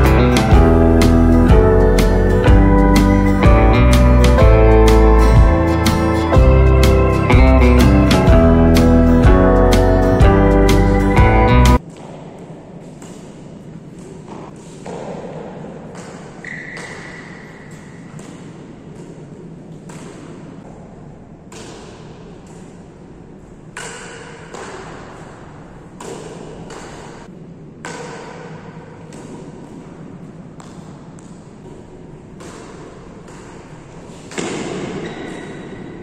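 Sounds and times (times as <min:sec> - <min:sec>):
steady low background noise: 0:00.0 - 0:36.0.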